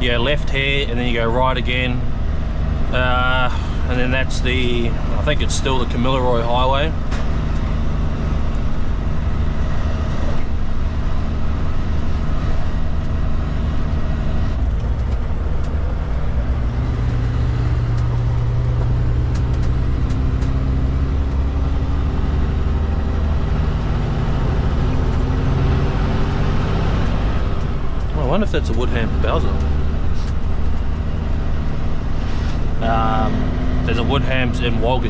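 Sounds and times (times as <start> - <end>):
road noise: 0.0 - 35.0
truck diesel engine drone: 0.0 - 35.0.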